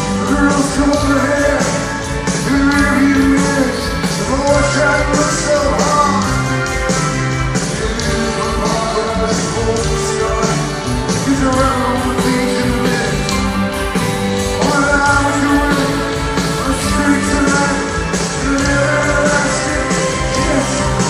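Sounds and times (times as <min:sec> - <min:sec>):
rock band music: 0:00.0 - 0:21.0.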